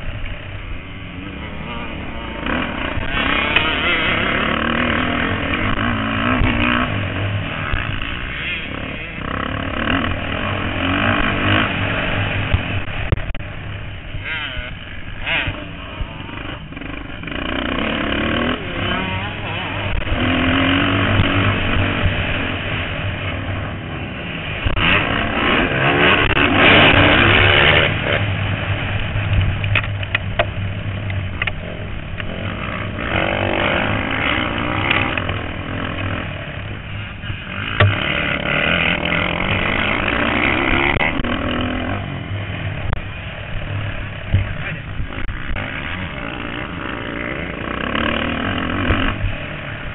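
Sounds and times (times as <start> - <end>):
motocross bikes revving: 0.0 - 49.9.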